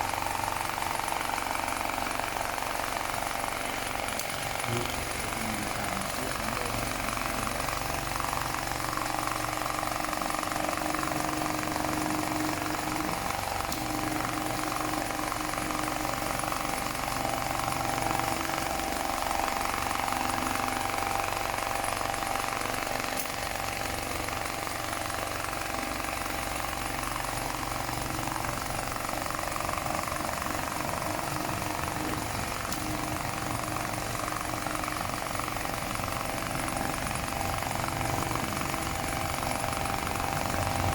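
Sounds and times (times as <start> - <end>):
sewing machine needle rattle: 0.0 - 40.9.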